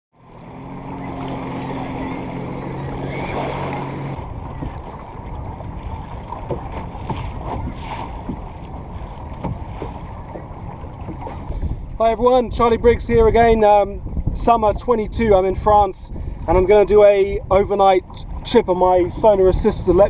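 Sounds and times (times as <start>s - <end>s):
water slapping against boat hull: 0.4s - 12.0s, 14.0s - 20.0s
wind on microphone: 0.4s - 20.0s.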